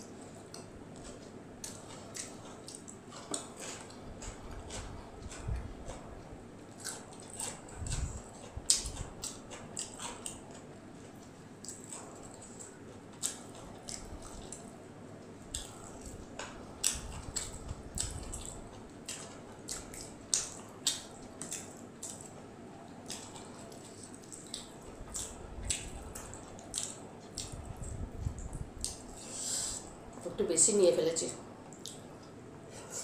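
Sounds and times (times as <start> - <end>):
wet chewing and lip smacking: 0.3 - 14.8, 15.5 - 30.2, 31.7 - 32.4.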